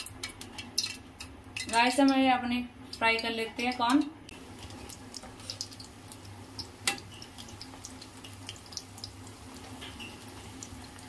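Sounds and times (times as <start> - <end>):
corn deep-frying in hot oil: 0.0 - 11.0.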